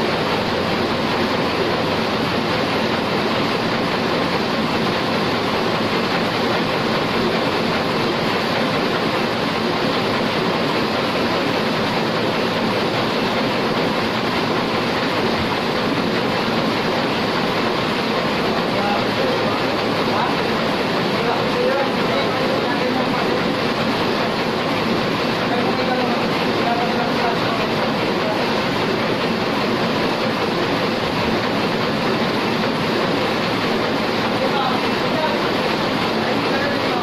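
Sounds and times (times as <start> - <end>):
printing press running: 0.0 - 37.0.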